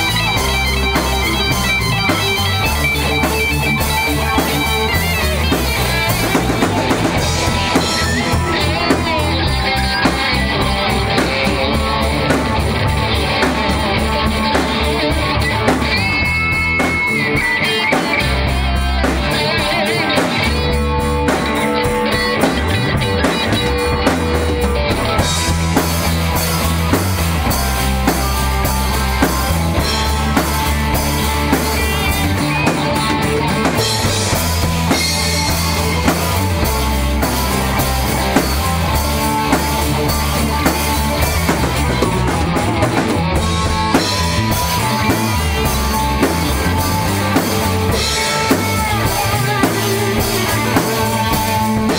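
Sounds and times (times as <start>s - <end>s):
rock music with drums and guitar: 0.0s - 51.9s.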